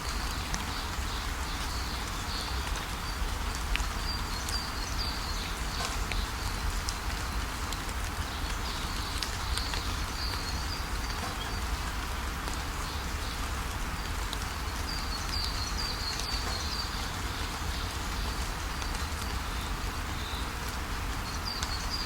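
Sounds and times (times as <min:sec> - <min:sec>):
small birds chirping: 0:00.1 - 0:11.9, 0:12.6 - 0:20.6, 0:21.2 - 0:22.0.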